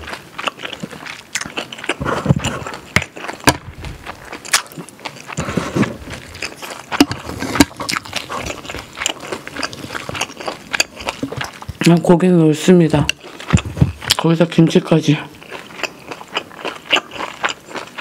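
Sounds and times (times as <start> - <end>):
wet chewing and lip smacks: 0.0 - 12.2, 12.9 - 14.6, 15.3 - 18.0.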